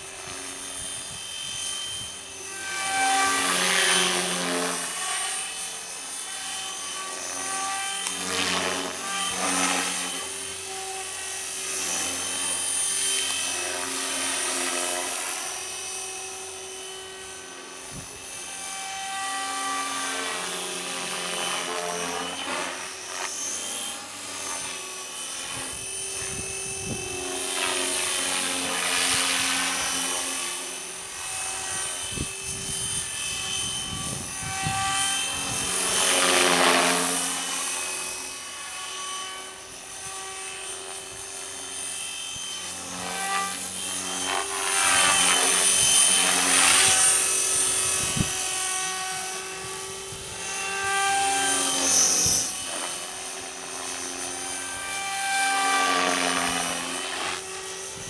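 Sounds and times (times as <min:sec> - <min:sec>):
model helicopter motor whine: 0:00.0 - 0:58.0.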